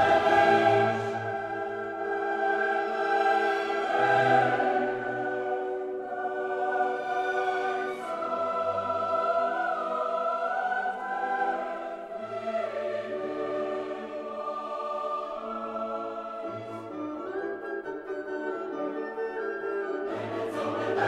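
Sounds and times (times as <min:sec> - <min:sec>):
choir singing held chords: 0:00.0 - 0:17.4, 0:20.0 - 0:21.0.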